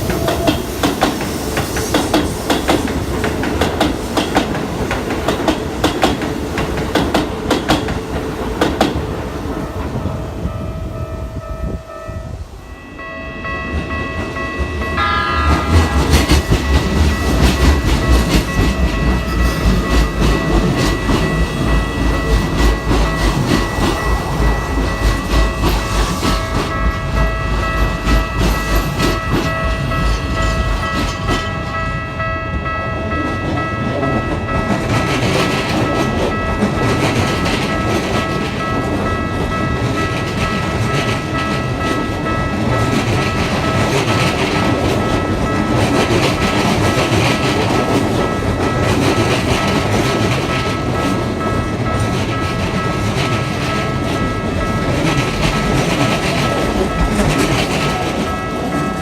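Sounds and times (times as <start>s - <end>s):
level-crossing warning bell: 0.0s - 59.0s
train wheels rumbling on rail: 0.0s - 59.0s.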